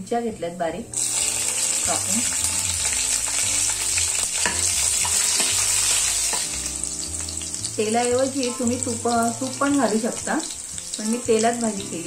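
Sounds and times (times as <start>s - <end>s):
chillies sizzling in hot oil: 0.8s - 12.0s.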